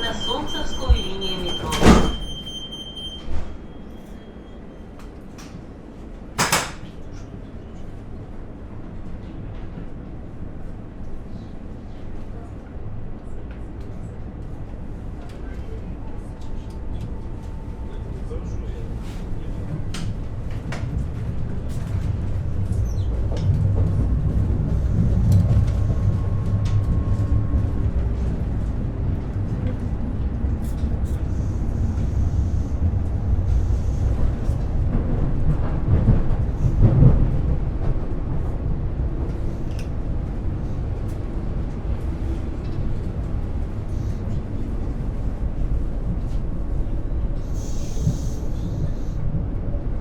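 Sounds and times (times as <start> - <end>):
train wheels rumbling on rails: 0.0 - 2.6, 4.9 - 50.0.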